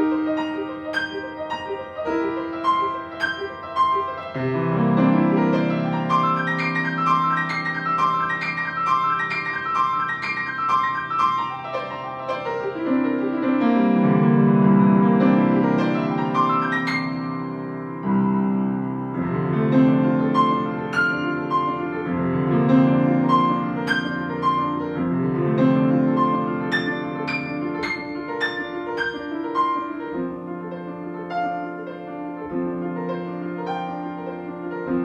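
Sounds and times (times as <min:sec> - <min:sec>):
solo grand piano: 0:00.0 - 0:35.0.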